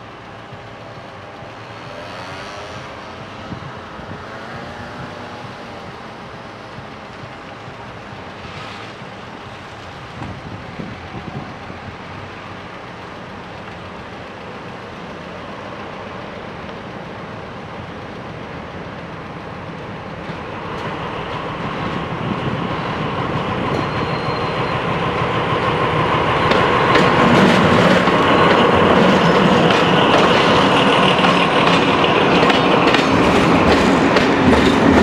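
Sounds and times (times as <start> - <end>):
diesel locomotive engine drone: 0.0 - 35.0
wheels clicking on rails: 0.0 - 35.0.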